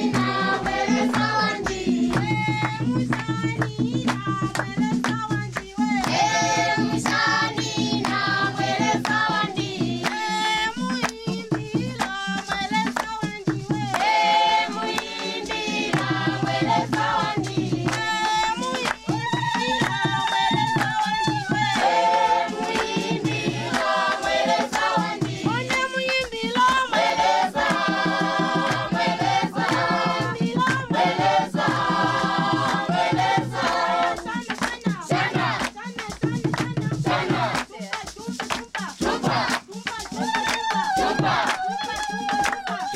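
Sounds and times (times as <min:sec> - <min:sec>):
rhythmic beat: 0:00.0 - 0:42.9
voices singing: 0:00.0 - 0:42.9.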